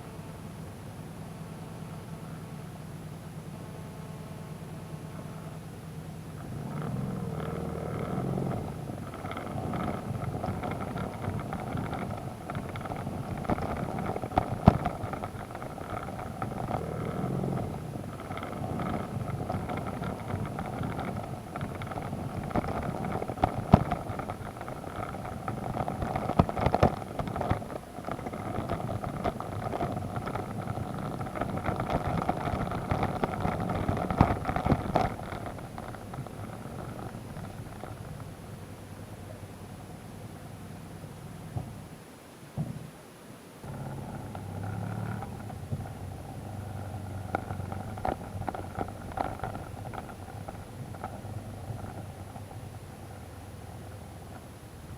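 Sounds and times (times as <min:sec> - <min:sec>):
motorcycle engine running: 0:00.0 - 0:41.9, 0:43.6 - 0:54.9
rough road noise: 0:00.0 - 0:42.9, 0:43.6 - 0:54.9
motorcycle jolting over bumps: 0:05.5 - 0:41.9, 0:43.6 - 0:54.9.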